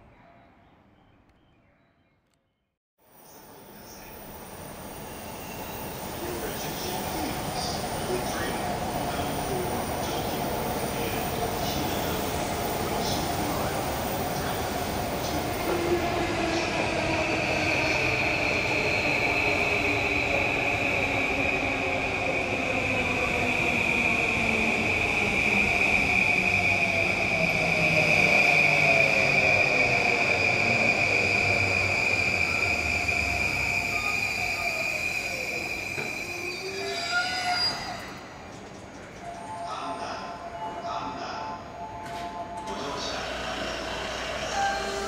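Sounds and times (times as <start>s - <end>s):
electric train high-pitched squeal: 4.8s - 45.0s.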